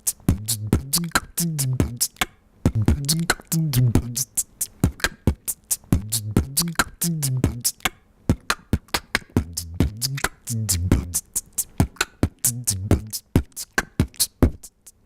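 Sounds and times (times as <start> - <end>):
person beatboxing: 0.0 - 15.0.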